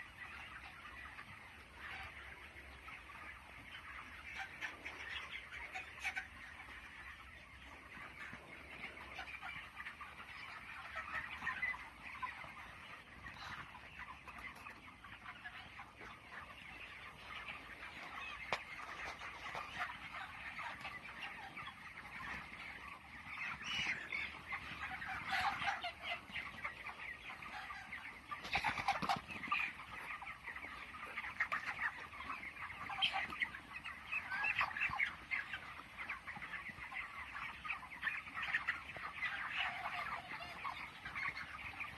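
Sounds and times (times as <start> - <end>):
chickens chirping and clucking: 0.0 - 41.9.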